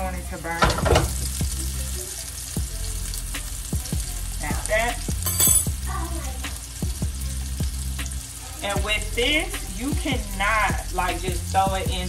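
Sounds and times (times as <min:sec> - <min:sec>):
meatballs sizzling in a skillet: 0:00.0 - 0:12.0.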